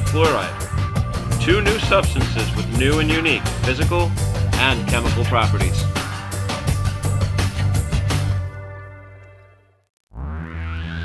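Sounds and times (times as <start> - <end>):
synthesizer music: 0.0 - 9.5.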